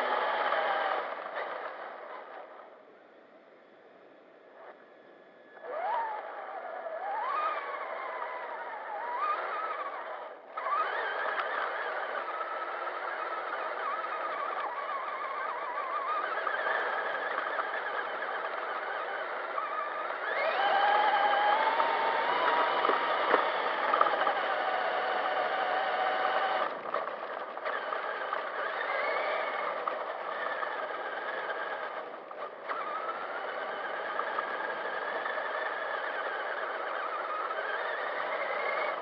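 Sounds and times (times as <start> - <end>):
electric motor whining: 0.0 - 2.7, 4.6 - 39.0.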